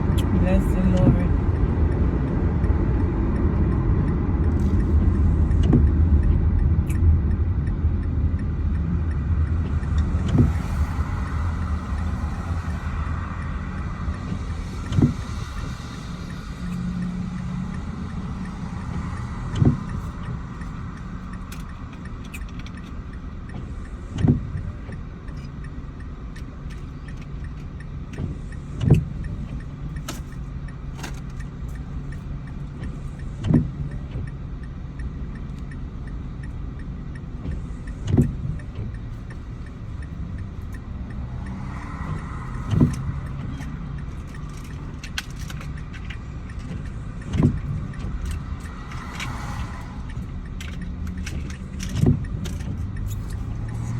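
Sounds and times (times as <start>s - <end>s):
car engine and road hum: 0.0s - 53.9s
windscreen wipers thumping: 0.0s - 53.9s.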